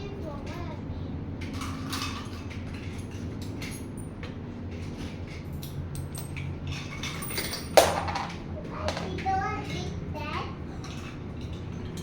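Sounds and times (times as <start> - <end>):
dishes and utensils clattering: 1.4 - 9.9, 10.7 - 12.0.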